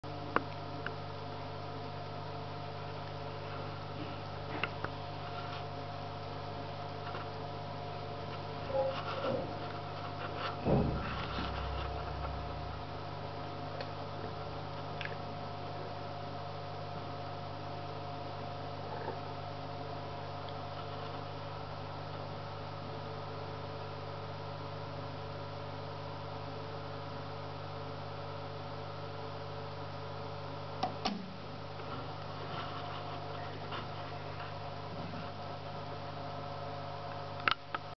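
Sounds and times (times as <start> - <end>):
electrical mains hum: 0.0 - 37.9.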